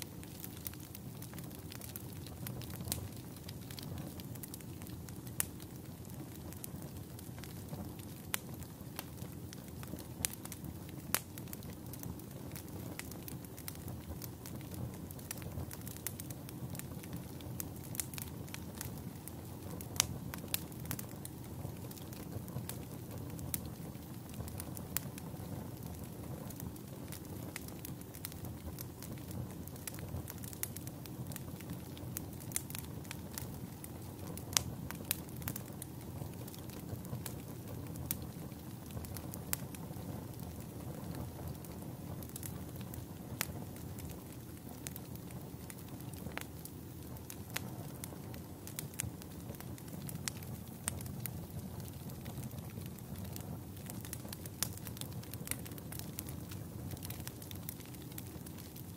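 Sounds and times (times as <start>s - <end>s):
campfire flames rushing: 0.0s - 58.9s
wood crackling and popping: 0.0s - 58.9s.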